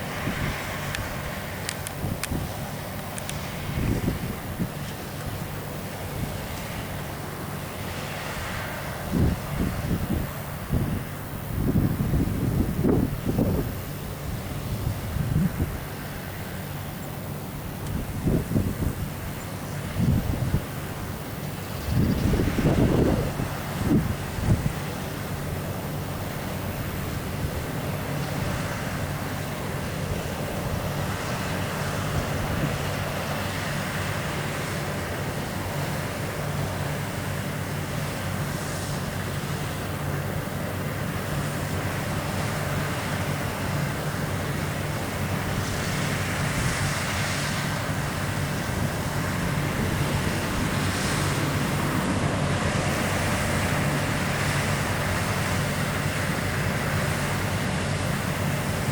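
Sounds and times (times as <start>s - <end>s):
combine harvester engine drone: 0.0s - 58.9s
steady rushing noise: 0.0s - 58.9s.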